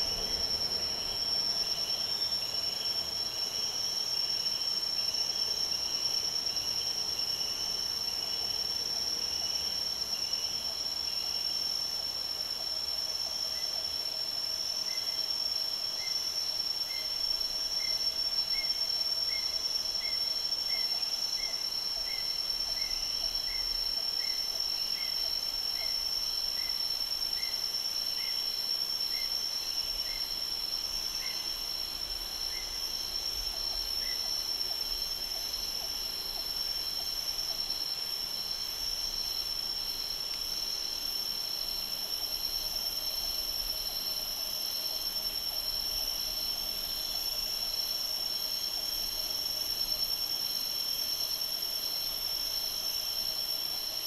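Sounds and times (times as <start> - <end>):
insect chorus drone: 0.0 - 54.0
short insect chirp: 0.0 - 54.0
shrill insect band: 0.0 - 54.0.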